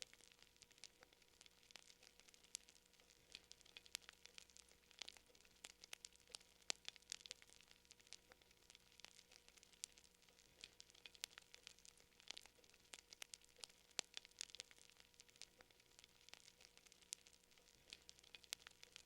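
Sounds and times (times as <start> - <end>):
sharp pops and snaps: 0.0 - 19.0
wood fire crackling: 0.0 - 19.0.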